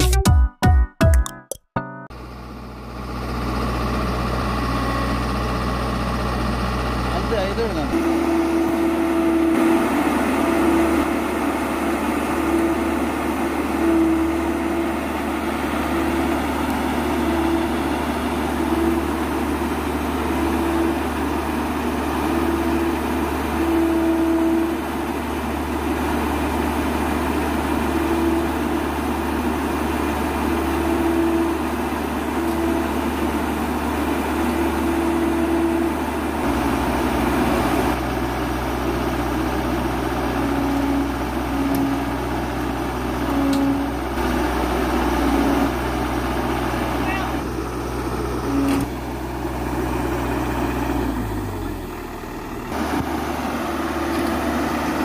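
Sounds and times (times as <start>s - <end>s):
heavy diesel engine running: 2.1s - 55.0s.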